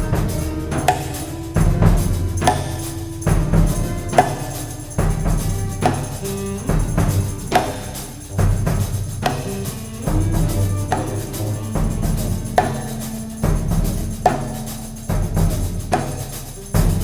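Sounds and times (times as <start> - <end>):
sustained low notes: 0.0 - 16.1
struck percussion accents: 0.0 - 17.0.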